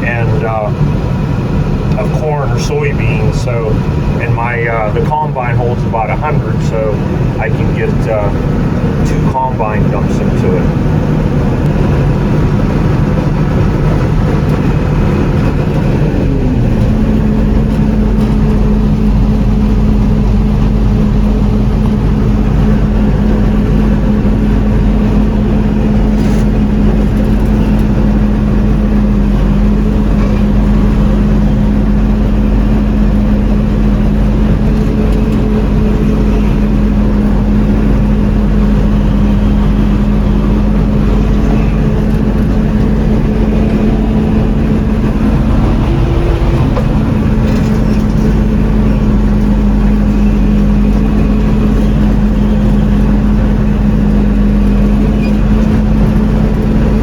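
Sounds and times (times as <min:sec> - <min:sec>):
combine diesel engine running: 0:00.0 - 0:57.0.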